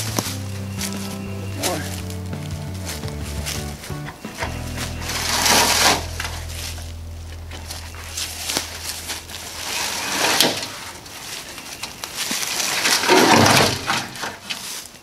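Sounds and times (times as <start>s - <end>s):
pipe rolling over grass: 0.0s - 14.8s.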